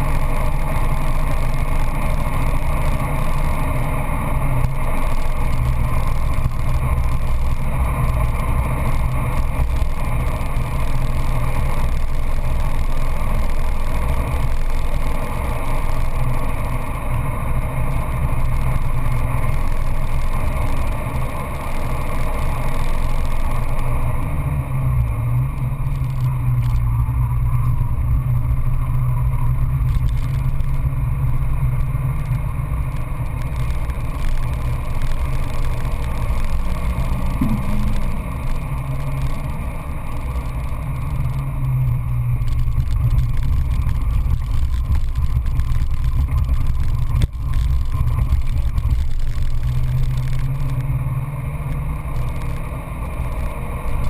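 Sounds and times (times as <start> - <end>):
car engine pulling hard: 0.0 - 54.0
road and wind noise: 0.0 - 54.0.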